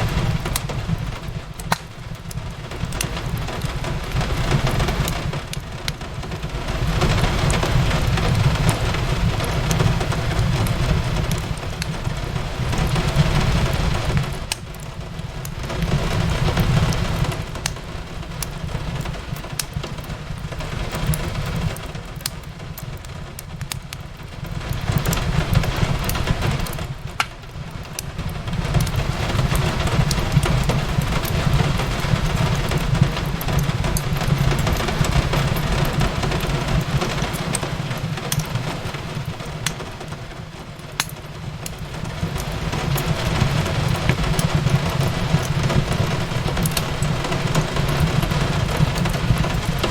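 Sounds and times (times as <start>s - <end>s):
fireplace crackling: 0.0s - 49.9s
rain on a window: 0.0s - 49.9s.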